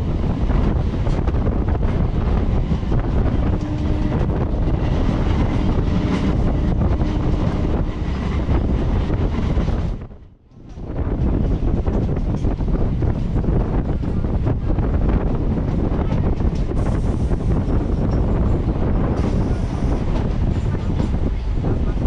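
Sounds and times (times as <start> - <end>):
train running noise: 0.0 - 22.0
wind rushing over microphone: 0.0 - 22.0.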